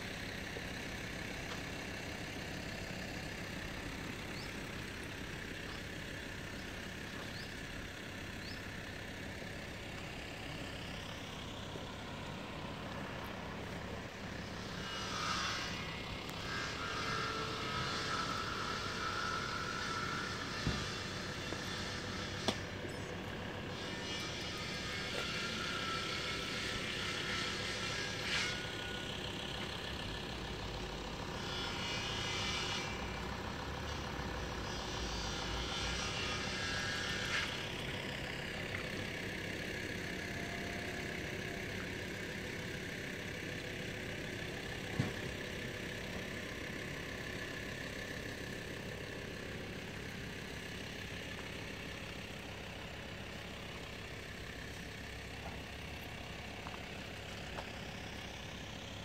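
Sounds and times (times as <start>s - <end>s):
vehicles idling: 0.0s - 59.0s.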